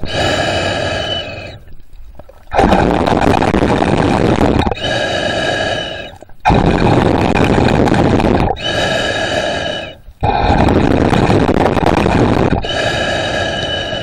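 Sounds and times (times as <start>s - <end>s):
heavy breathing through snorkel: 0.0s - 1.7s, 4.3s - 14.0s.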